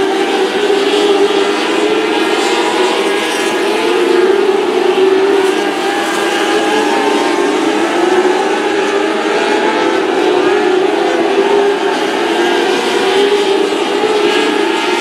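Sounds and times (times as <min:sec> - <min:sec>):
race car engines at high revs: 0:00.0 - 0:15.0.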